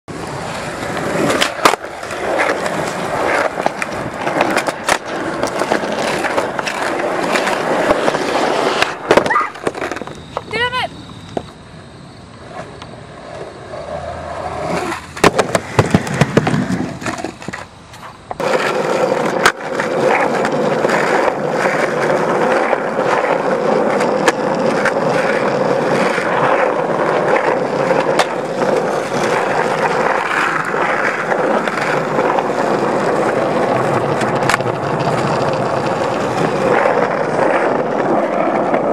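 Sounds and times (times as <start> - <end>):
skateboard clacks: 0.1 - 11.6, 12.4 - 38.9
skateboard wheels rolling on asphalt: 0.1 - 38.9.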